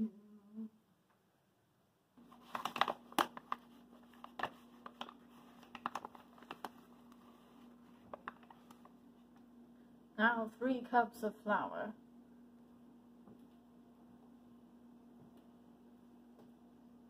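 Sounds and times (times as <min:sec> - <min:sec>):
steady low hum: 0:02.0 - 0:17.0.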